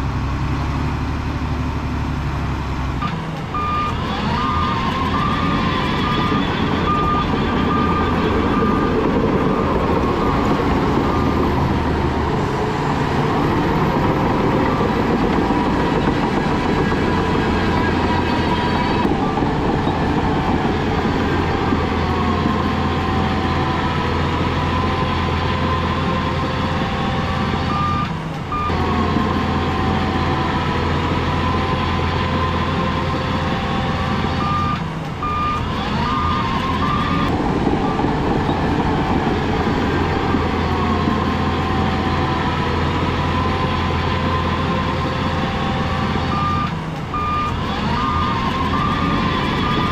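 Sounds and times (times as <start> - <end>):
diesel machinery engine hum: 0.0 - 49.9
wavering mechanical whine: 3.0 - 49.9.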